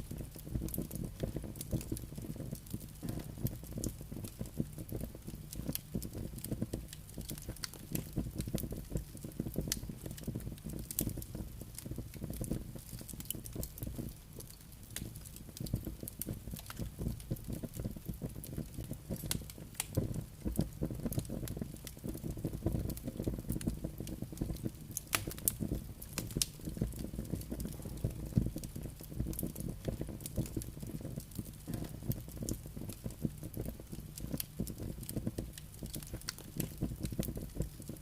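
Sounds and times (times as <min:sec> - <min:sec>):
campfire crackling and popping: 0:00.0 - 0:38.0
low rumble of wind and flames: 0:00.0 - 0:38.0.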